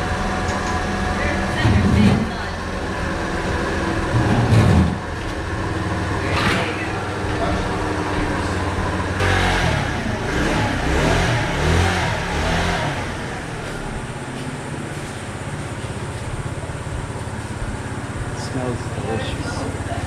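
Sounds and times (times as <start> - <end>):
scooter engine revving and idling: 0.0 - 20.0.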